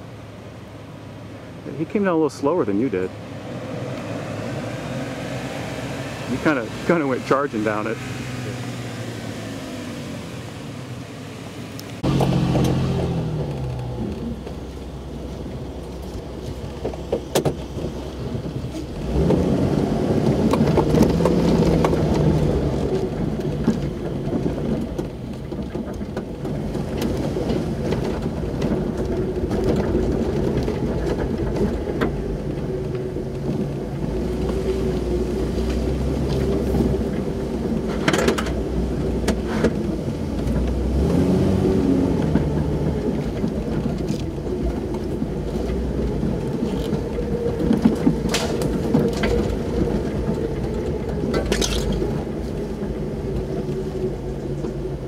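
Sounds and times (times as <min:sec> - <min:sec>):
car engine revving: 0:01.1 - 0:55.0.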